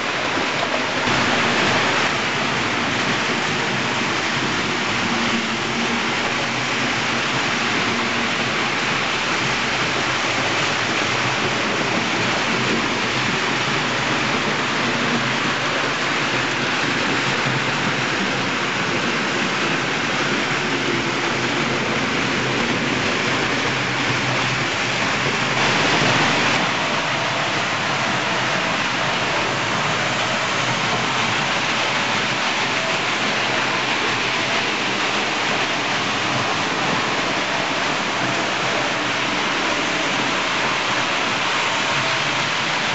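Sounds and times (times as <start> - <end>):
model trains rolling on track: 0.0 - 42.9.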